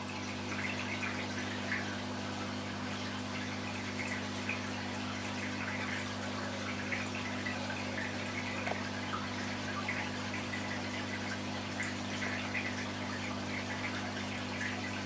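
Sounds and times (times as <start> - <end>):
aquarium filter pump hum: 0.0 - 15.0
water bubbling and trickling: 0.0 - 15.0.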